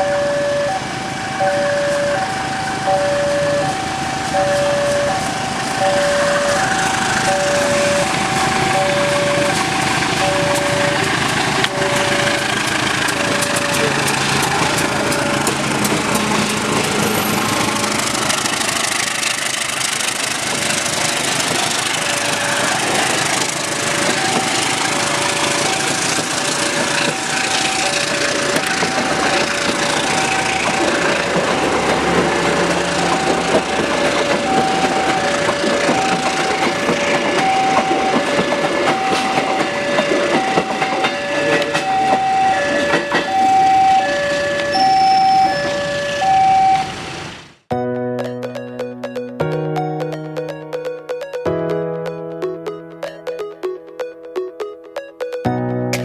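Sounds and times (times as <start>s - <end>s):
level crossing alarm beeping: 0.0s - 47.5s
passing train rattle and rumble: 0.0s - 47.7s.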